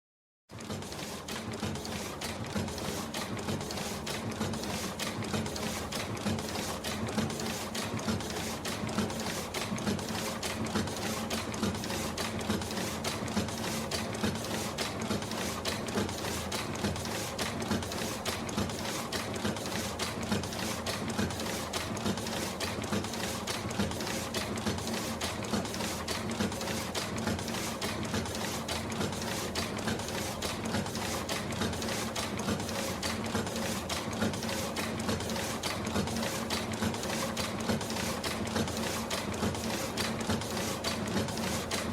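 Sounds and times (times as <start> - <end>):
industrial printer rattling: 0.5 - 41.9.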